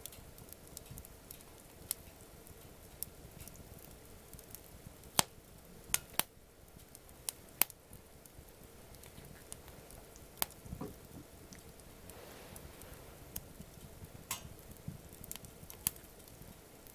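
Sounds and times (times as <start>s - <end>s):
campfire crackling and popping: 0.0s - 16.9s.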